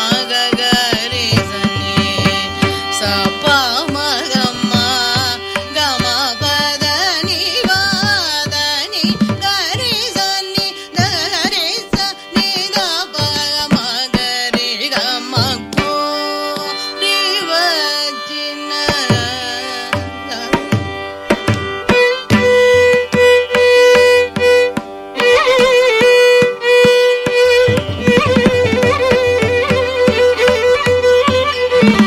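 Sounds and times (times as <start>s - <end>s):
violin melody with sliding ornaments: 0.0s - 32.0s.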